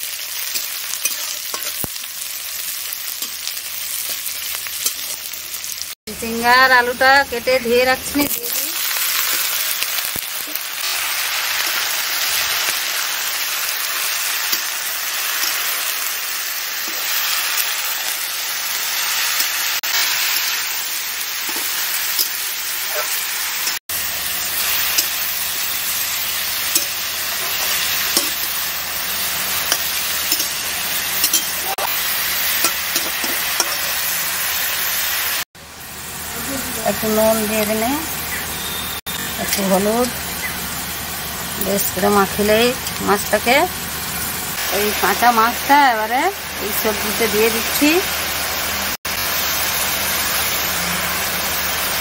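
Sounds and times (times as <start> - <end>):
vegetables sizzling in oil: 0.0 - 52.0.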